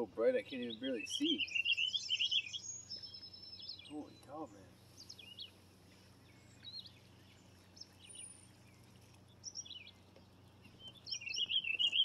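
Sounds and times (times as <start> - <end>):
faint bird chirps: 0.6 - 12.0.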